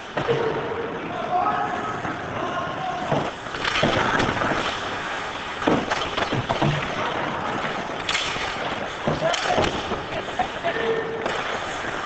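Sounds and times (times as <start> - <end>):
skates scraping on ice: 0.0 - 12.0.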